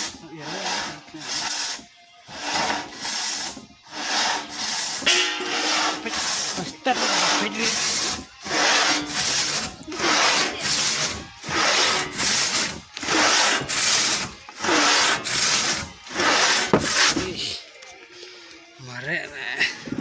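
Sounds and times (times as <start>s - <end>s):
saw rasping through wood: 0.0s - 17.4s.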